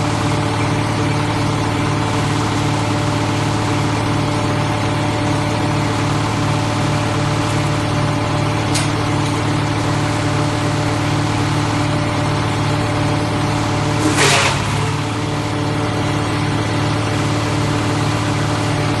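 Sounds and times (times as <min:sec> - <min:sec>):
wood chipper diesel engine running: 0:00.0 - 0:19.0.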